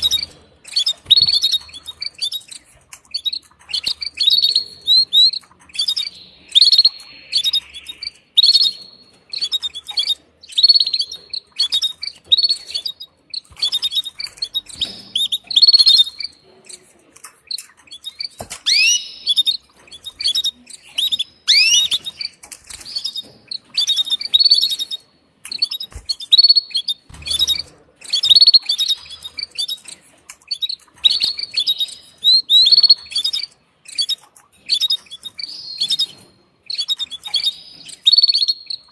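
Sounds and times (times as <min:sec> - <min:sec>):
canary chirping: 0:00.0 - 0:38.9.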